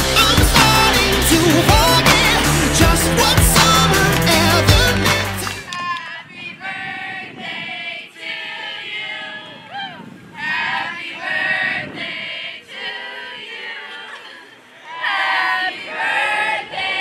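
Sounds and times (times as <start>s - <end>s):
girls singing unaccompanied: 0.0s - 9.6s, 10.4s - 17.0s.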